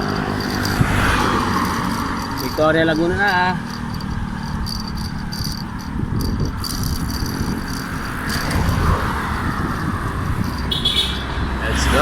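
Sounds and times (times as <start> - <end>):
motor vehicle passing: 0.0 - 12.0
wind buffeting microphone: 0.0 - 12.0.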